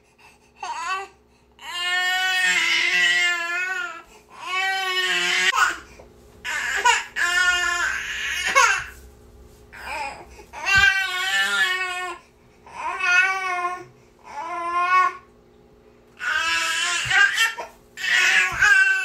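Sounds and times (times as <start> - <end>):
infant crying: 0.6 - 5.8, 6.5 - 9.0, 9.8 - 15.2, 16.2 - 19.0.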